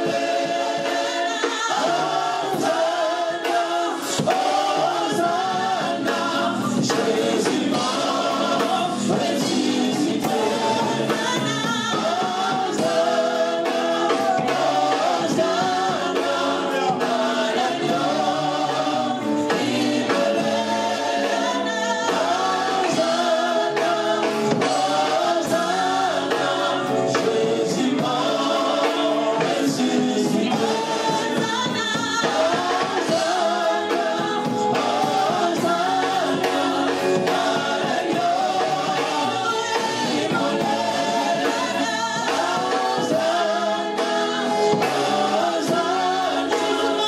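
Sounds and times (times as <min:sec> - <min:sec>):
live band with drums: 0:00.0 - 0:47.0
women singing gospel in harmony: 0:00.0 - 0:47.0.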